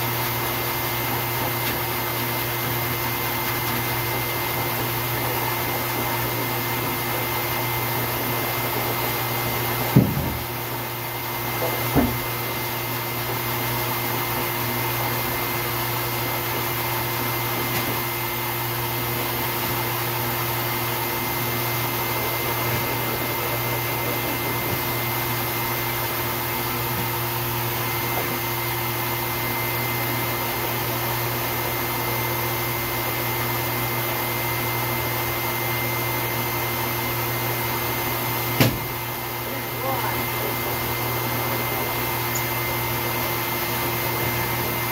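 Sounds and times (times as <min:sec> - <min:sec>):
dryer motor whine: 0:00.0 - 0:44.9
pet dryer blowing air: 0:00.0 - 0:44.9.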